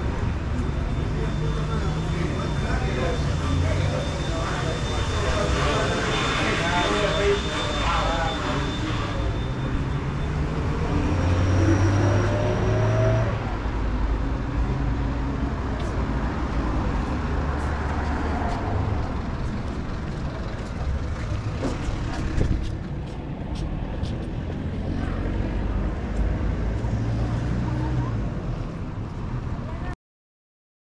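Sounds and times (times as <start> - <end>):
vehicle engine accelerating: 0.0 - 29.5
low traffic rumble: 0.0 - 30.0.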